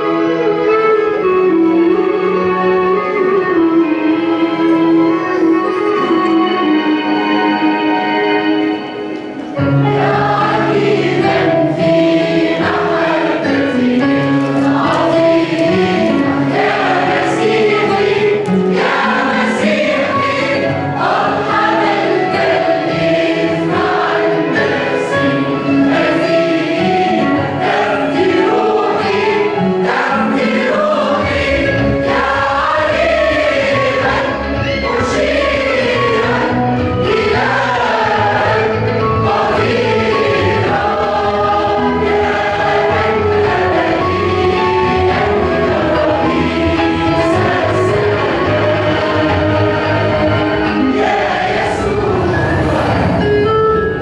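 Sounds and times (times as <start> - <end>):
mixed choir singing a hymn: 6.6 - 53.5.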